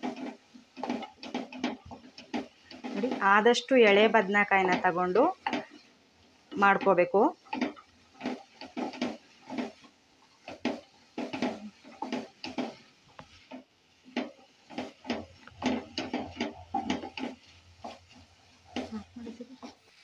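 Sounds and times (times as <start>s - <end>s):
wooden spatula scraping metal pot: 0.0s - 20.0s.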